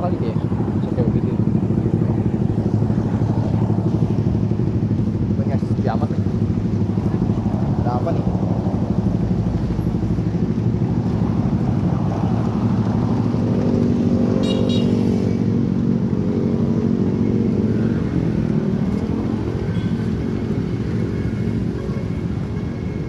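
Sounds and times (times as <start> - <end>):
motorcycle engine running: 0.0 - 23.0
road rumble: 0.0 - 23.0.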